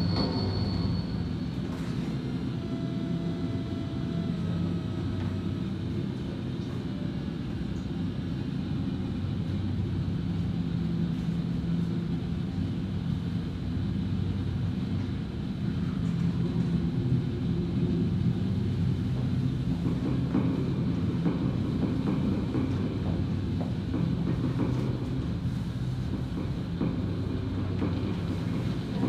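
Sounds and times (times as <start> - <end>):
low rumbling drone: 0.0 - 29.0.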